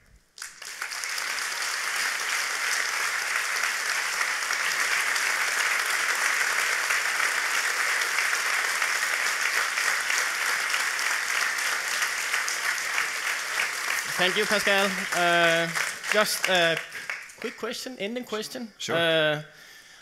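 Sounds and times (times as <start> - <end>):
audience applauding: 0.4 - 17.8.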